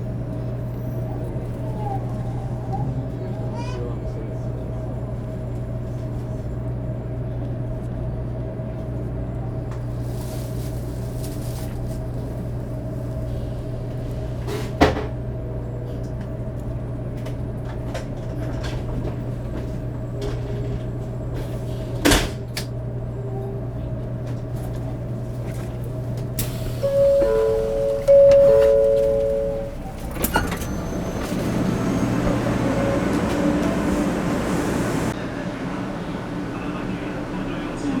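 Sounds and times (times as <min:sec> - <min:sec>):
train car low hum: 0:00.0 - 0:38.0.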